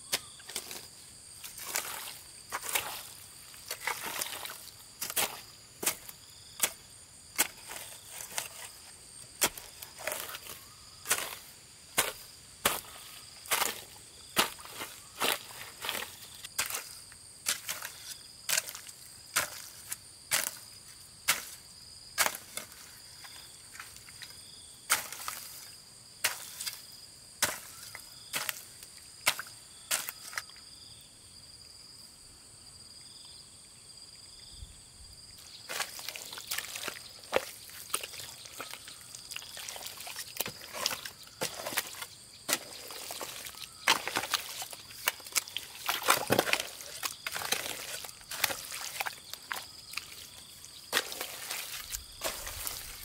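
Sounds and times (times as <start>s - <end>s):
hoe chopping into wet mud: 0.1s - 8.8s, 9.4s - 20.6s, 21.3s - 21.6s, 22.2s - 22.8s, 24.9s - 25.6s, 26.2s - 26.8s, 27.4s - 30.4s, 35.7s - 53.0s.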